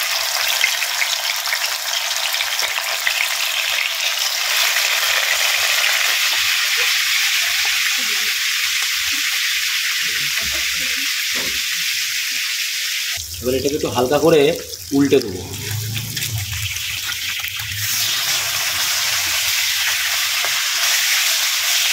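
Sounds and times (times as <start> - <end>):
fish sizzling in hot oil: 0.0 - 21.9.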